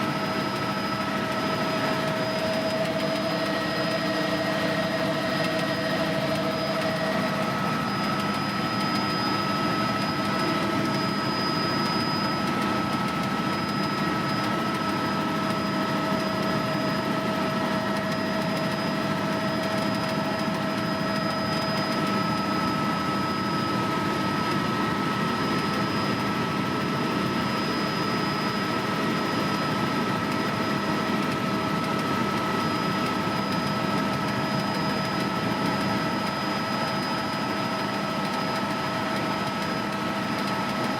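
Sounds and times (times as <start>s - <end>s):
helicopter engine and rotor noise: 0.0s - 40.9s
steady whining tones: 0.0s - 40.9s.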